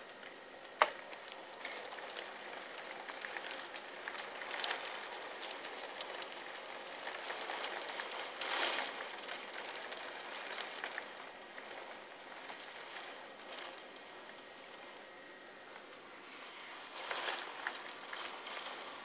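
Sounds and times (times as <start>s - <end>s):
raindrops ticking and splashing: 0.1s - 15.0s, 16.8s - 19.0s
heavy rain pouring: 1.0s - 15.1s, 15.8s - 19.0s.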